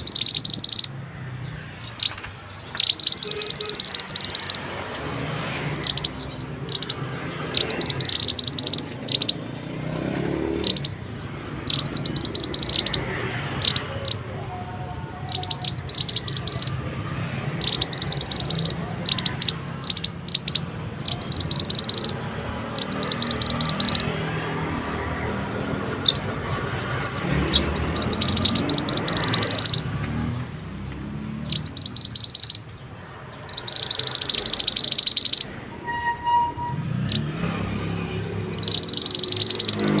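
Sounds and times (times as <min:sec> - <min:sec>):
bird trilling: 0:00.0 - 0:40.0.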